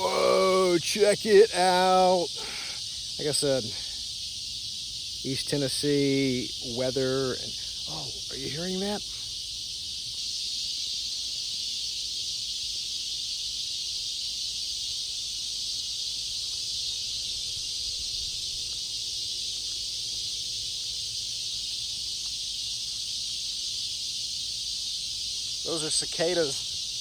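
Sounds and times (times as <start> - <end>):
cicadas buzzing: 0.0 - 27.0.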